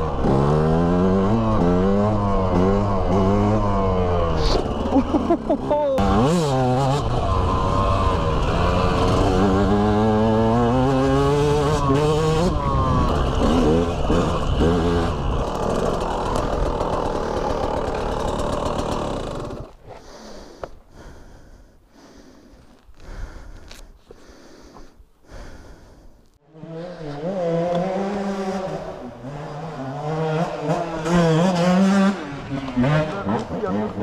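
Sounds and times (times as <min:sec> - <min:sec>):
two-stroke motorcycle engine revving: 0:00.0 - 0:19.8, 0:26.5 - 0:34.0.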